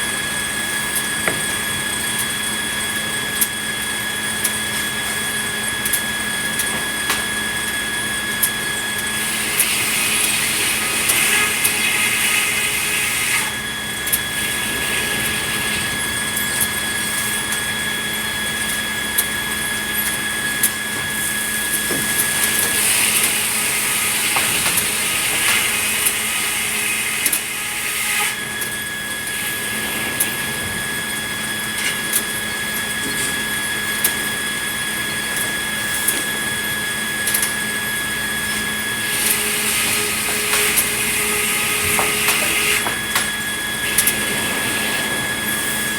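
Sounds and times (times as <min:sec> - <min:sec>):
high saw whine: 0:00.0 - 0:45.9
sawmill saw drone: 0:00.0 - 0:45.9.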